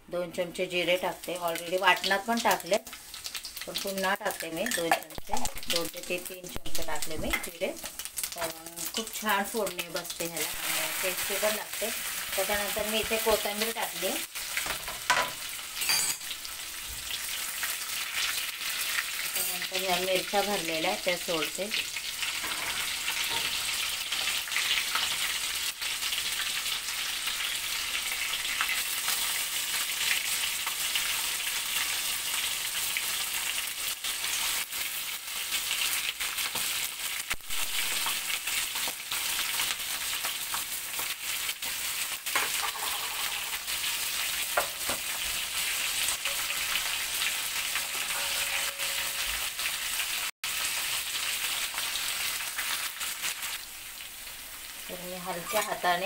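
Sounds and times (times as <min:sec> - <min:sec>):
hot oil sizzling: 0:00.0 - 0:56.0.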